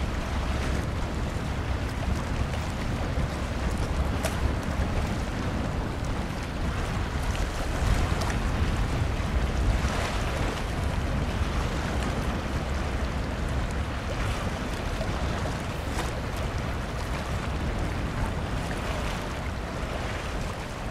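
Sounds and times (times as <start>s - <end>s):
choppy sea water: 0.0s - 20.9s
faint water splashes: 0.0s - 20.9s
wind buffeting microphone: 0.0s - 20.9s.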